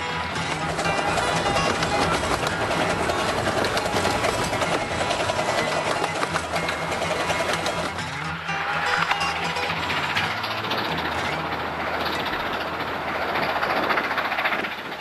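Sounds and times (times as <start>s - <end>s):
miniature steam train wheels clattering: 0.0s - 15.0s.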